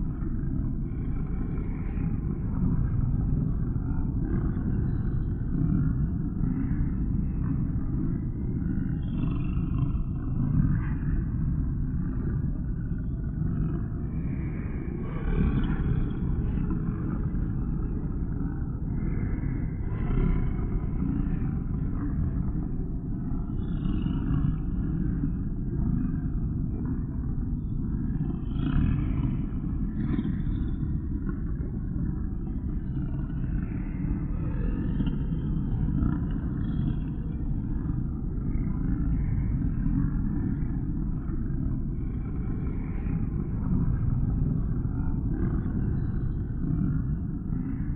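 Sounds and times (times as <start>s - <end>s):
low rumbling creature growls: 0.0s - 47.9s.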